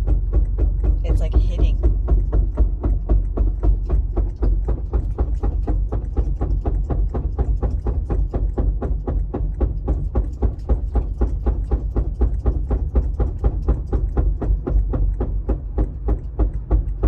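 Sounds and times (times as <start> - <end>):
low rumble: 0.0 - 17.0
rapid even knocking: 0.0 - 17.0.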